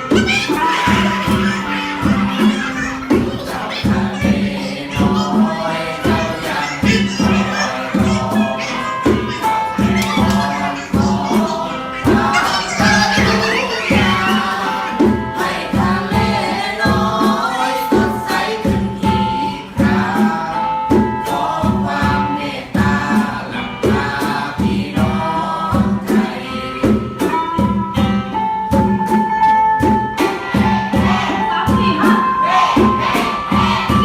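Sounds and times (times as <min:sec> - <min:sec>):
voices singing together: 0:00.0 - 0:27.4, 0:30.2 - 0:34.0.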